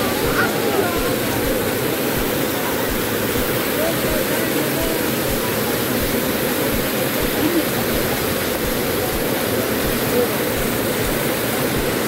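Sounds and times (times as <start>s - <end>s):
faint voices: 0.0s - 12.0s
waterfall rushing over rocks: 0.0s - 12.0s.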